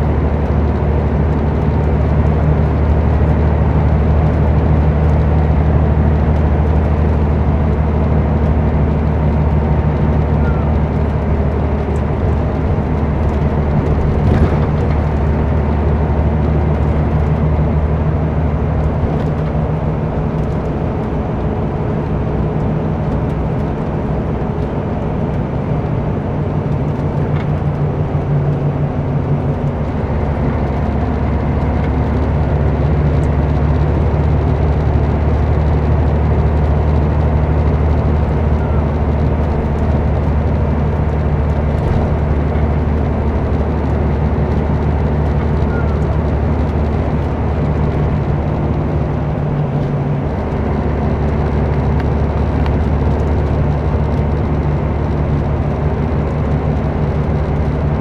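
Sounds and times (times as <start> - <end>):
diesel engine running: 0.0 - 58.0
tyre and road noise: 0.0 - 58.0.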